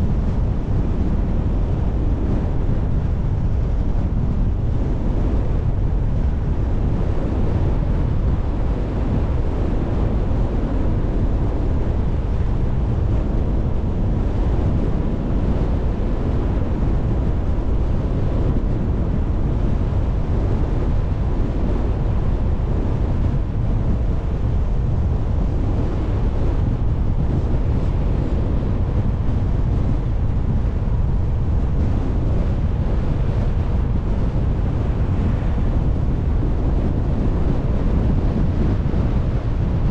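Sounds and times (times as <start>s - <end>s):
car driving low rumble: 0.0s - 39.9s
wind buffeting microphone: 0.0s - 39.9s.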